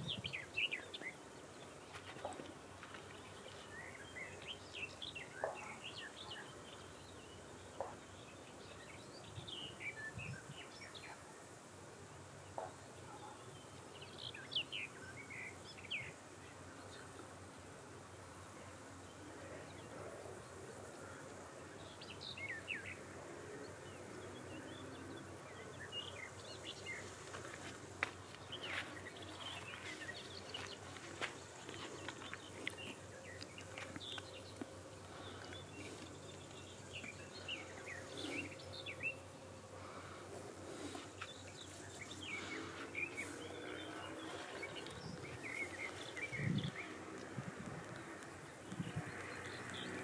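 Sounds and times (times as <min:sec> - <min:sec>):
outdoor background hum: 0:00.0 - 0:50.0
small birds chirping: 0:00.0 - 0:50.0.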